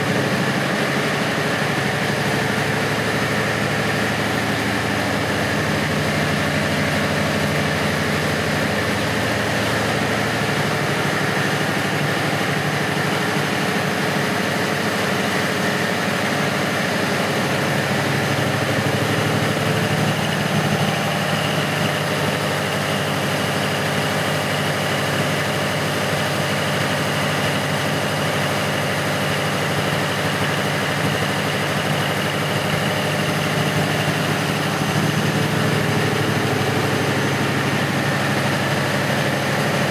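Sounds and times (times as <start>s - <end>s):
diesel generator engine drone: 0.0s - 39.9s.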